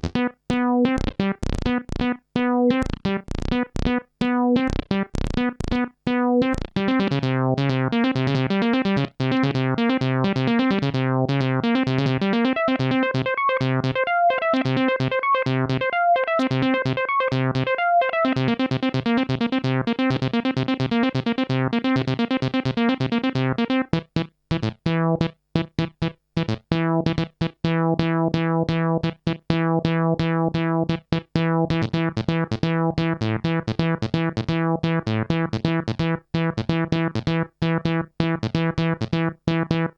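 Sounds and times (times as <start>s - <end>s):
synthesizer arpeggio: 0.0s - 35.0s.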